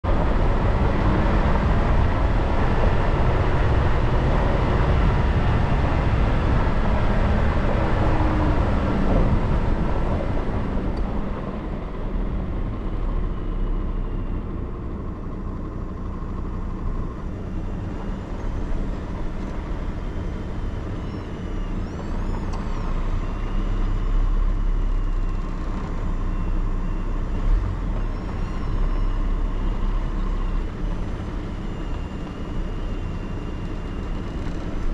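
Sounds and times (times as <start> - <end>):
vehicle driving on dirt road: 0.0 - 34.9.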